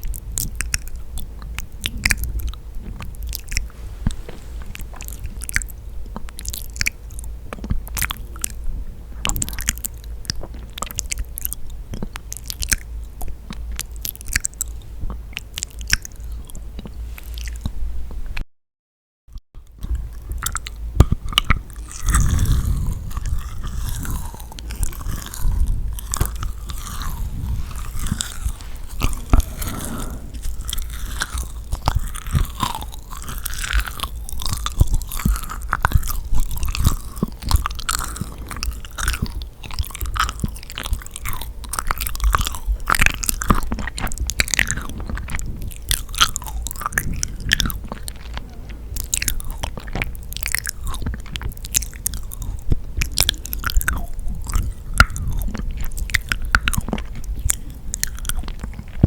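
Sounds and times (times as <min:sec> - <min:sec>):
sticky wet chewing: 0:00.0 - 0:08.6, 0:09.2 - 0:17.7, 0:19.8 - 0:59.0.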